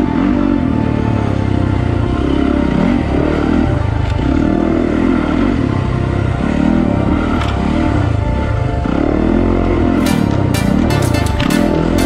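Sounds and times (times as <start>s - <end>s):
dirt bike engine revving: 1.7s - 12.0s.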